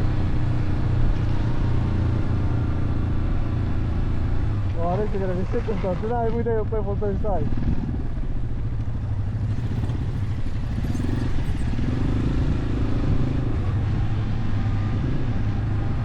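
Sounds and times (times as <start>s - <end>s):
motorcycle engines running: 0.0s - 16.0s.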